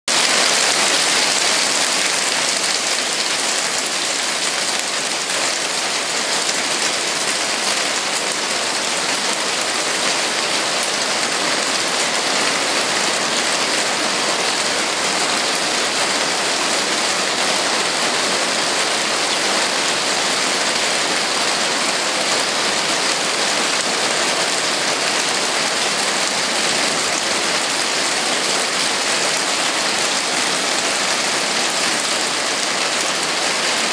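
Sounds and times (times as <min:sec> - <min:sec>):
hail clattering on a roof: 0:00.1 - 0:33.9.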